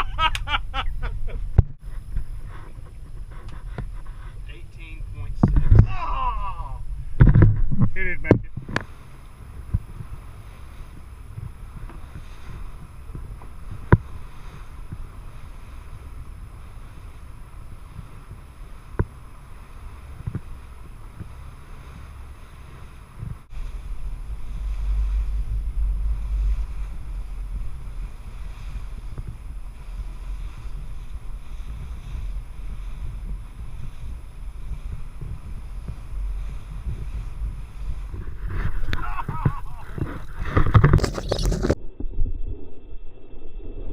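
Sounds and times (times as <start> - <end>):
low rumble of wind and boat: 0.0 - 43.9.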